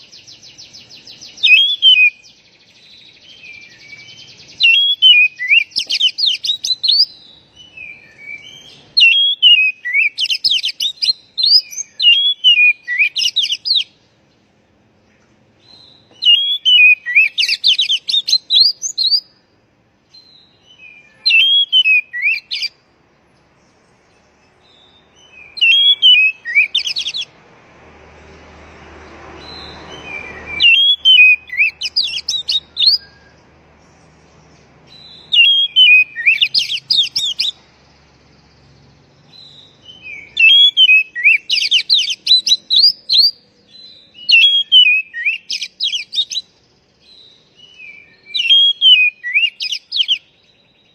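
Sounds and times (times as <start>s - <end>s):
songbird whistling call: 0.0s - 14.0s, 15.6s - 19.5s, 20.1s - 22.8s, 23.7s - 27.3s, 29.4s - 34.0s, 34.9s - 38.6s, 39.2s - 50.9s.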